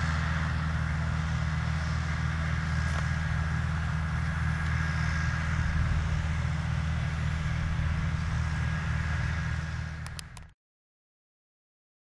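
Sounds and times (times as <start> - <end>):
faint high whine: 0.0 - 10.5
tractor diesel engines droning: 0.0 - 10.6.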